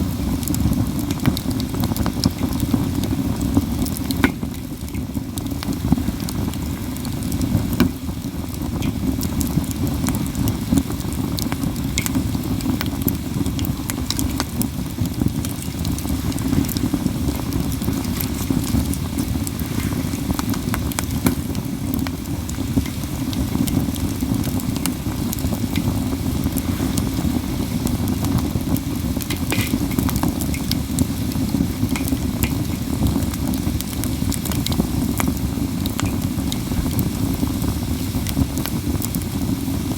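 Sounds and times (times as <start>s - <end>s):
sharp pops of fire: 0.0s - 39.8s
wood fire crackling: 0.0s - 39.9s.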